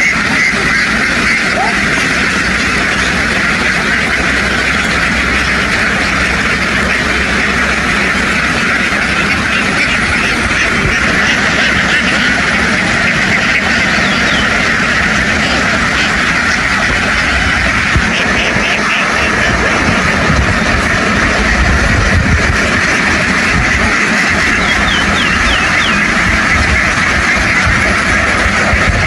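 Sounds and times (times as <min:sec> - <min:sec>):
flock of ducks quacking: 0:00.0 - 0:29.0.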